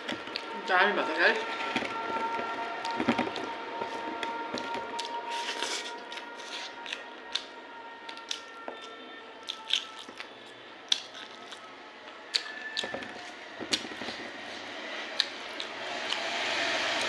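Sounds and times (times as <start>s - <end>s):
wet chewing: 0.0s - 0.6s, 1.3s - 16.3s.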